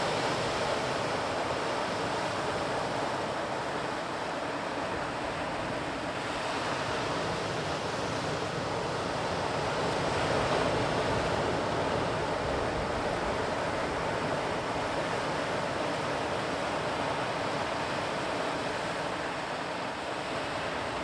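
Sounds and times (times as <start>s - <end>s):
sea surf washing onto shore: 0.0s - 21.0s.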